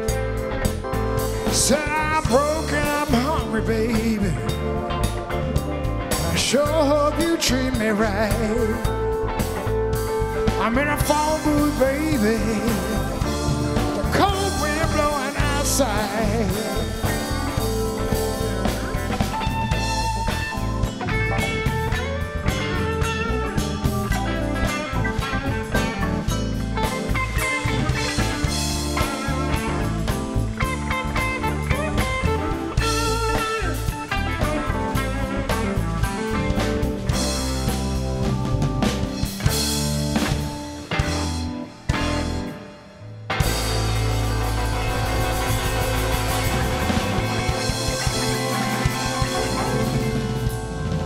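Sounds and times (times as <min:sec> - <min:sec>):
drum kit: 0:00.0 - 0:51.0
electric blues band playing live: 0:00.0 - 0:51.0
electric guitar lead with bent notes: 0:00.0 - 0:51.0.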